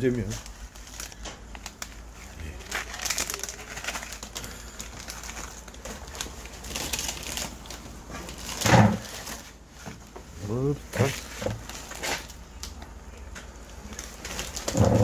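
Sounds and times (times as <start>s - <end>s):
plastic packets crinkling: 0.0s - 15.0s.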